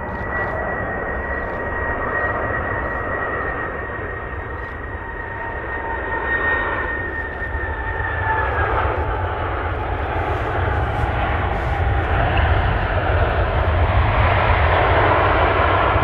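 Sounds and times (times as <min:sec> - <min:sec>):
jet engines whining and rumbling: 0:00.0 - 0:16.0.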